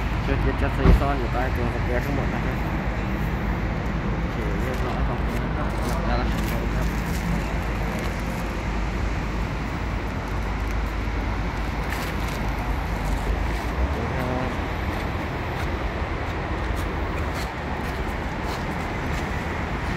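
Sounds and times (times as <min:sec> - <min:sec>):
outdoor background rumble: 0:00.0 - 0:19.9.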